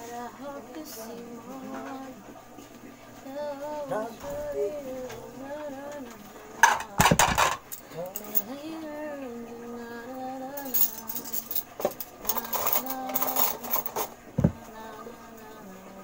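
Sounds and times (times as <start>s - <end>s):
woman singing softly: 0.0s - 16.0s.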